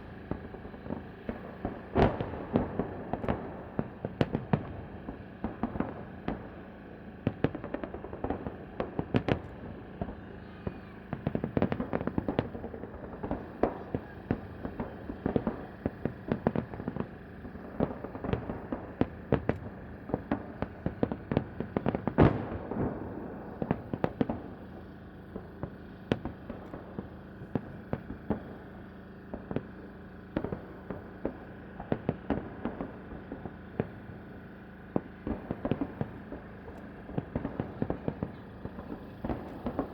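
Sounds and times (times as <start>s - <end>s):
fireworks banging: 0.0s - 39.9s.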